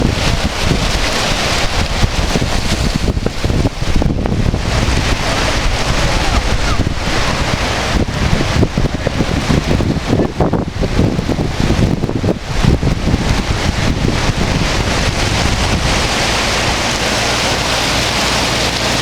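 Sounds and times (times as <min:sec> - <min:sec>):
creek rushing: 0:00.0 - 0:19.0
wind buffeting microphone: 0:00.0 - 0:19.0.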